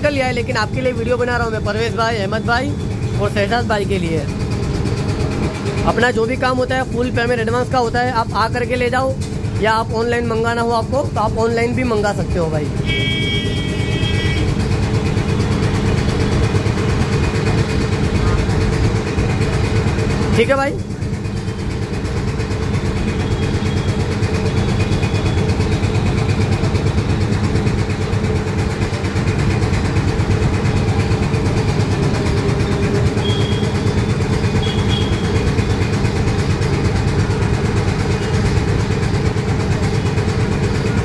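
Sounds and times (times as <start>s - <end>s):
air compressor running: 0.0s - 41.0s.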